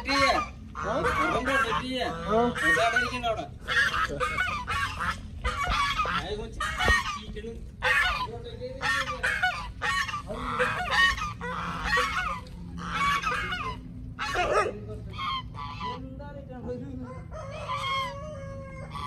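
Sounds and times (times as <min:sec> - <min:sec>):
birds honking: 0:00.0 - 0:19.0.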